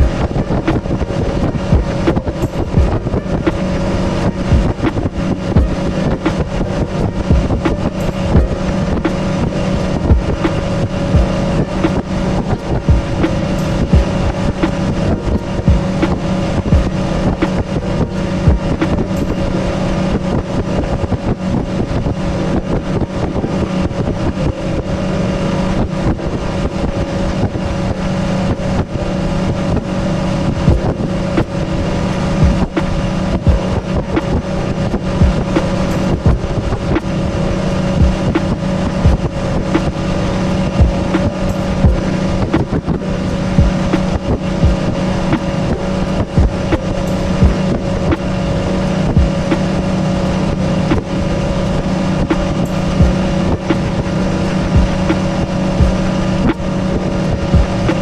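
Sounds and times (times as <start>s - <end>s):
outboard motor running: 0.0s - 58.0s
wind on microphone: 0.0s - 58.0s.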